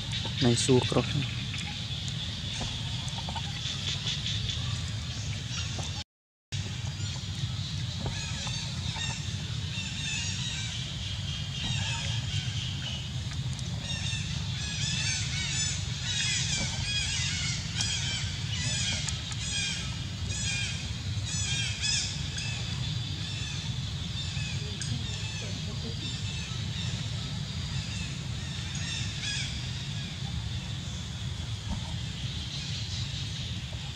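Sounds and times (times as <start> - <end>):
birds chirping: 0.0 - 6.0, 6.6 - 33.9.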